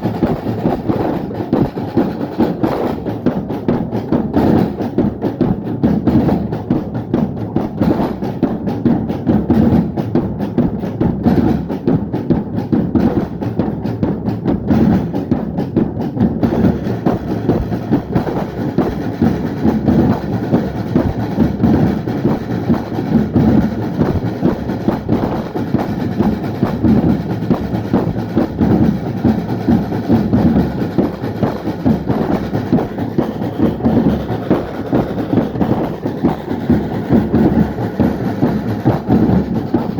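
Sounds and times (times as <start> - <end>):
drum band playing: 0.0 - 39.9.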